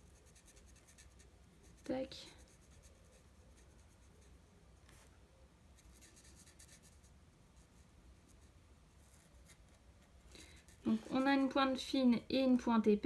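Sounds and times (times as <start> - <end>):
marker scratching on paper: 0.0 - 5.1, 5.8 - 11.4.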